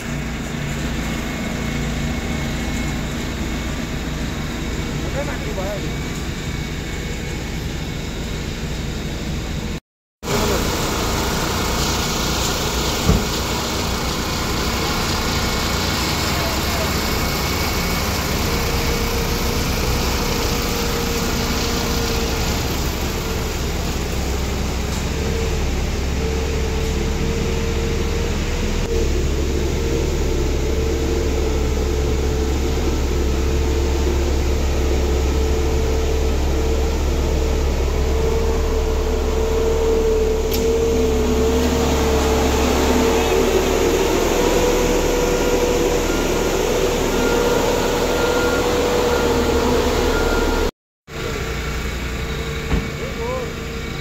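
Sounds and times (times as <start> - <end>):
road roller diesel engine whining: 0.0 - 54.0.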